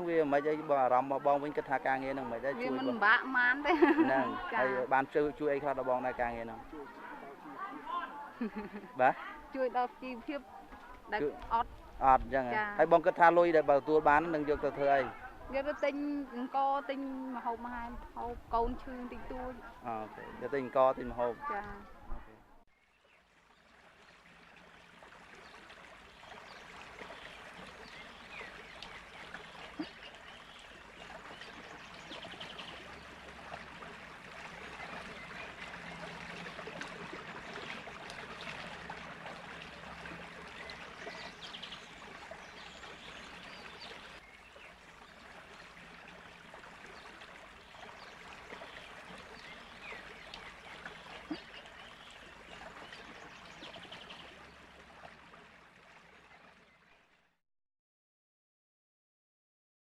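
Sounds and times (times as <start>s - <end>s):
flowing water rushing: 0.0s - 22.3s, 22.9s - 57.1s.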